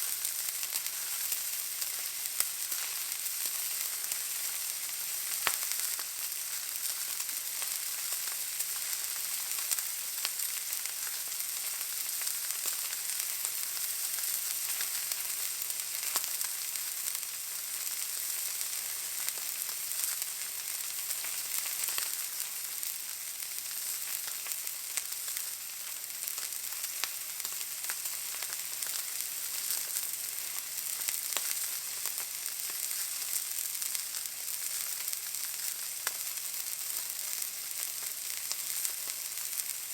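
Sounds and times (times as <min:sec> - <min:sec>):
fat crackling and popping: 0:00.0 - 0:39.9
steak sizzling in a pan: 0:00.0 - 0:39.9.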